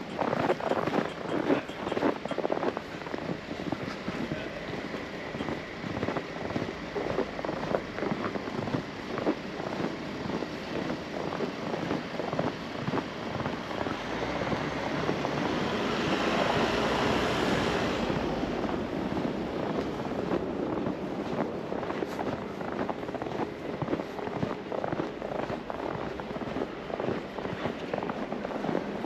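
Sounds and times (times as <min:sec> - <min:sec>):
footsteps crunching in snow: 0:00.0 - 0:29.0
passing vehicle: 0:00.0 - 0:29.0.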